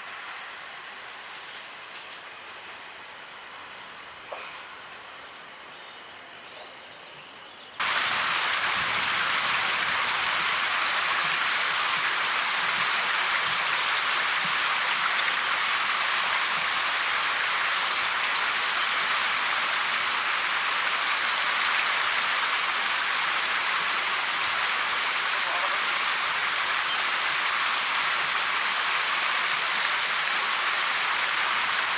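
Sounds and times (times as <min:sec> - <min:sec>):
steady even hiss: 0:00.0 - 0:31.9.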